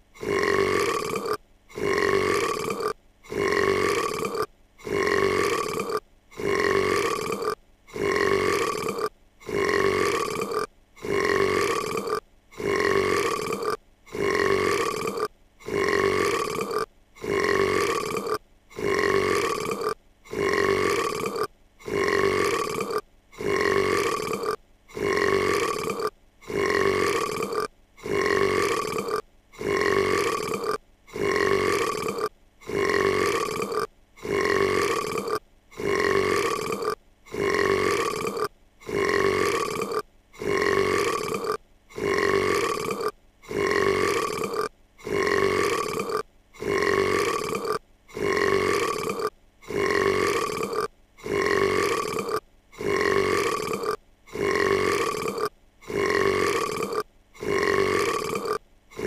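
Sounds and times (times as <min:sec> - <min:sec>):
cartoon girl burping: 0:00.2 - 0:59.0.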